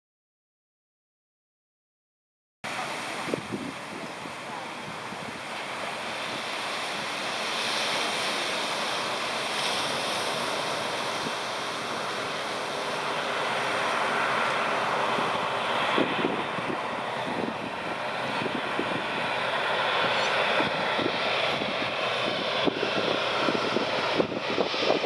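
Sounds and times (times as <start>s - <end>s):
wind buffeting microphone: 2.7s - 7.5s, 8.3s - 25.0s
sea surf washing ashore: 2.7s - 25.0s.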